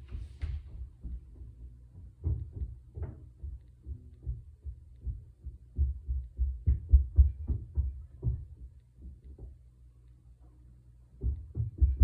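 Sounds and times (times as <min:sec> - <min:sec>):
dull thumping through ceiling: 0:00.0 - 0:09.8, 0:11.2 - 0:12.0.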